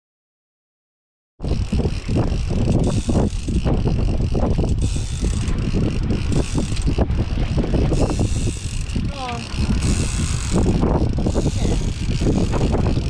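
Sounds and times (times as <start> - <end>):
strong wind buffeting microphone: 1.4 - 13.0.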